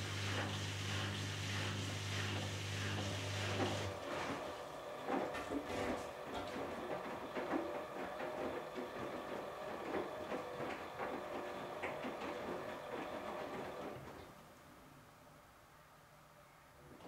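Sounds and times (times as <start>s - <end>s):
washing machine knocking and clattering: 0.0s - 14.2s
washing machine humming: 0.0s - 14.4s.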